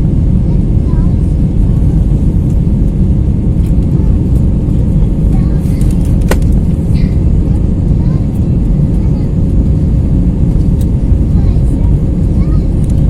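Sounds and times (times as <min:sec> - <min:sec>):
airplane engines rumbling: 0:00.0 - 0:13.0
rushing air: 0:00.0 - 0:13.0.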